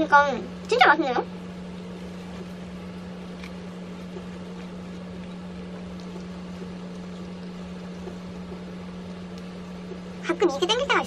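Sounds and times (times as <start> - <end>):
steady low hum: 0.0 - 11.0
person chewing soft cake: 1.4 - 10.2.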